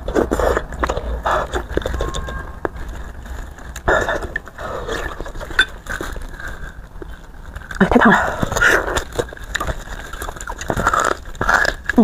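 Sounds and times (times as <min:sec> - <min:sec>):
mouth eating sounds: 0:00.0 - 0:02.9, 0:03.7 - 0:12.0.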